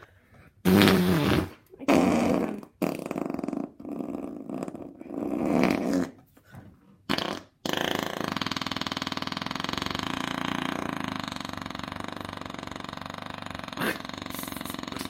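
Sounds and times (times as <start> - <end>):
imitation fart noises: 0.6 - 6.3, 7.0 - 15.0.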